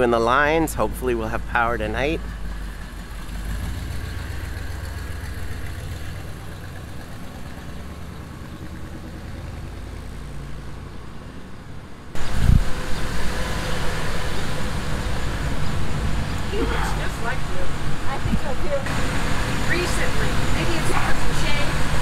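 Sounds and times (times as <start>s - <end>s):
pickup truck engine rumbling: 0.0s - 22.0s.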